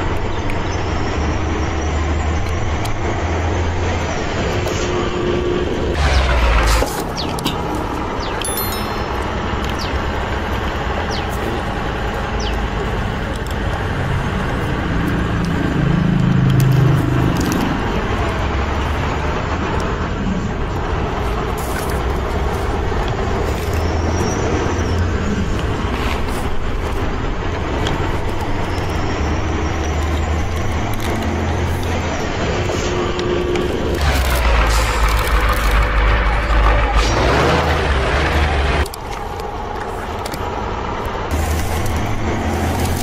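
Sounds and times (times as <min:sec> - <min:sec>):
vehicle engine rumbling: 0:00.0 - 0:43.0.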